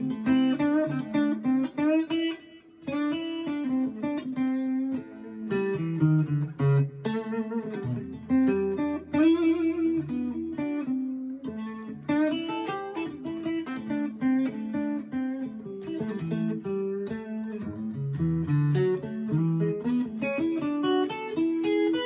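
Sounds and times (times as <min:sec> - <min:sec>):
solo guitar playing: 0:00.0 - 0:22.0.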